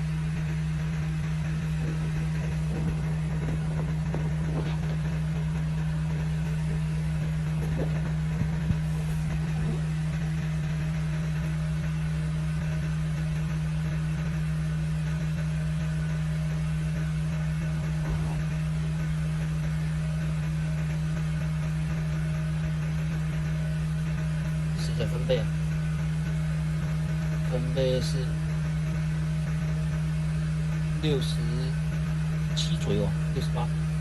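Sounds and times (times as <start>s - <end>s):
air conditioner humming: 0.0s - 34.0s
fan air noise: 0.0s - 34.0s.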